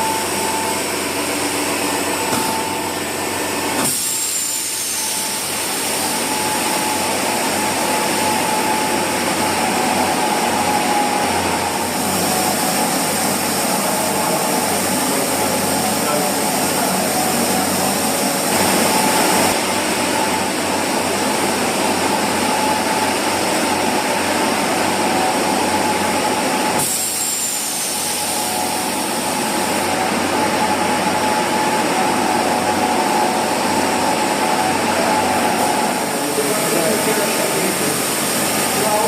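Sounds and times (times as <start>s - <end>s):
rug washing machine running: 0.0s - 39.0s.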